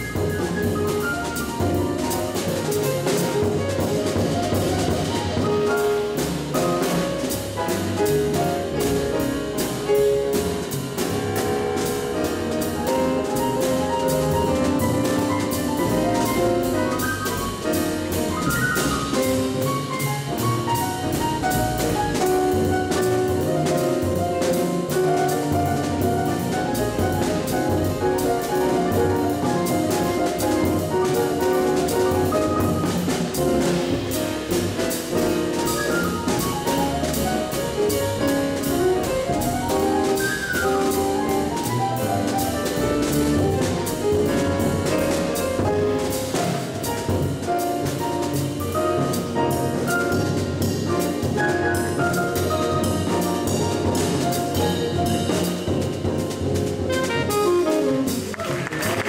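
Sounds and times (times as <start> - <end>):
drums on cymbals: 0.0 - 58.3
grand piano: 0.0 - 59.0
walking double bass: 0.0 - 59.0.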